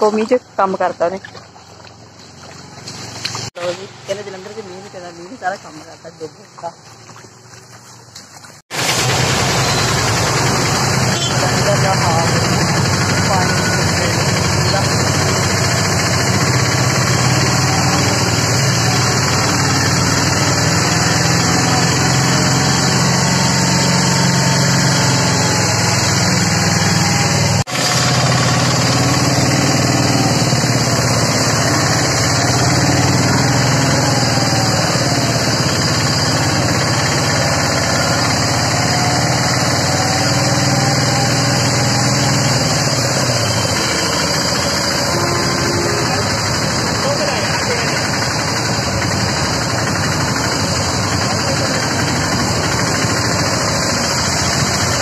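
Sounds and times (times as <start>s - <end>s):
auto-rickshaw engine running: 0.0s - 55.0s.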